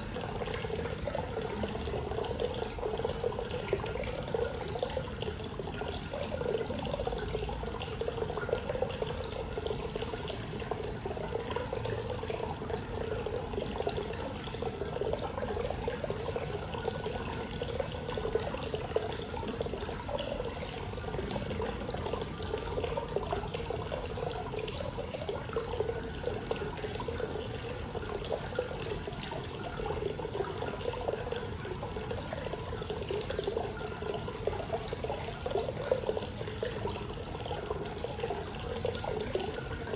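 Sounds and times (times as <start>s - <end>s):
water pouring into a bath: 0.0s - 39.9s.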